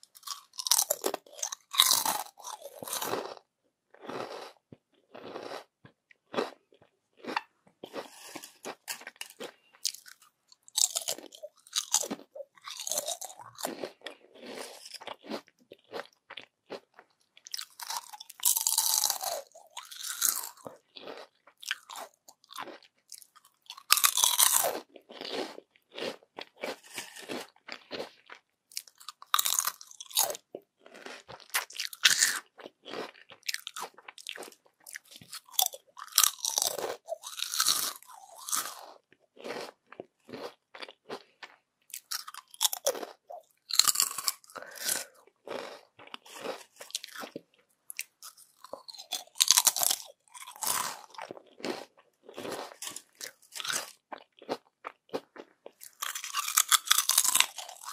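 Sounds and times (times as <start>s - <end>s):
crunching crispy chips: 0.0s - 3.4s, 7.2s - 16.8s, 17.4s - 57.9s
quiet chewing: 0.0s - 57.9s.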